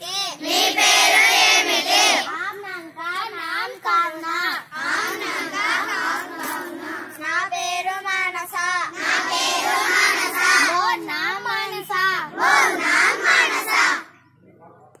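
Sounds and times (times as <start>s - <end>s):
children chanting in chorus: 0.0s - 2.4s, 4.0s - 14.1s.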